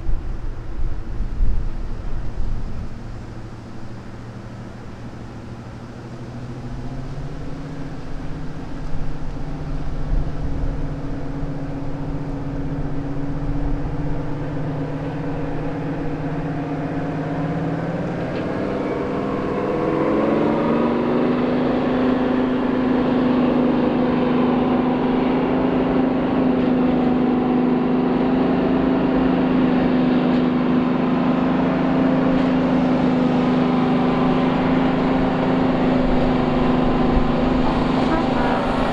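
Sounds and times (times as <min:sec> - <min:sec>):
diesel locomotive engines working: 0:00.0 - 0:38.9.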